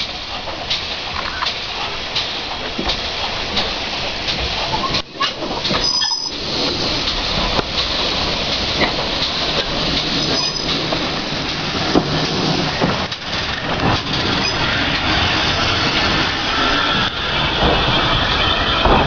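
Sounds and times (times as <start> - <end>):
steam locomotive rumble and hiss: 0.0 - 19.0.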